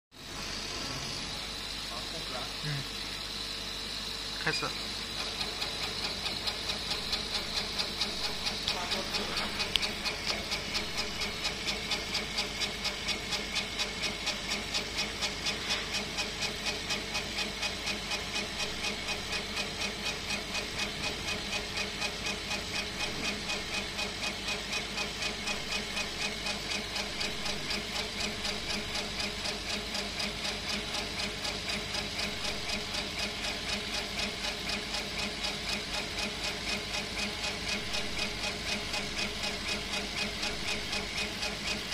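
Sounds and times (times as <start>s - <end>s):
laser engraver pulsing: 0.2s - 41.9s.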